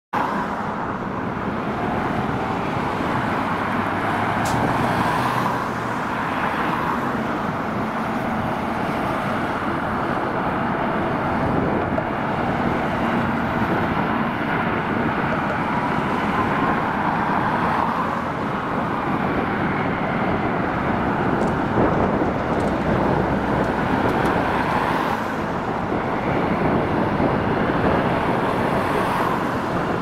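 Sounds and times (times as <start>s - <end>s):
road traffic: 0.1s - 30.0s
airliner engines taxiing: 0.7s - 30.0s.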